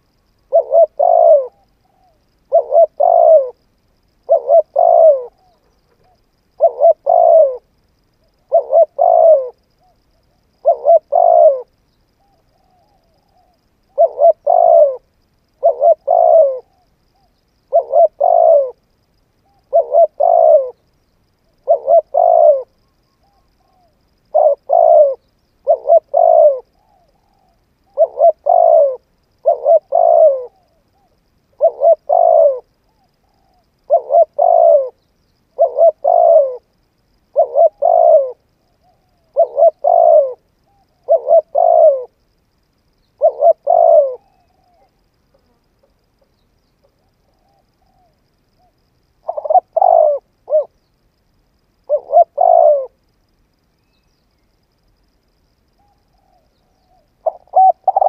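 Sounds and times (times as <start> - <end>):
dove cooing: 0.0 - 3.6, 4.2 - 18.8, 19.4 - 20.9, 21.5 - 36.7, 37.3 - 42.2, 43.2 - 45.6, 46.9 - 50.8, 51.9 - 53.0, 55.8 - 58.0.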